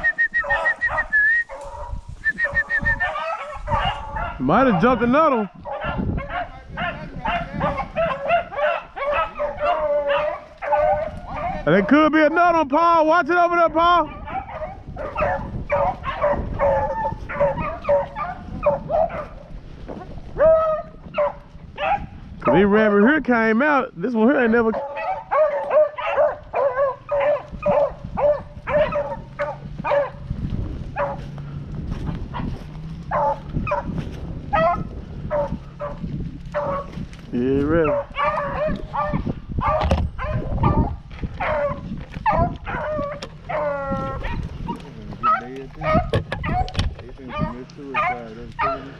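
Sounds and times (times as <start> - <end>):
hounds baying: 0.0 - 12.6, 13.7 - 23.2, 24.1 - 48.9.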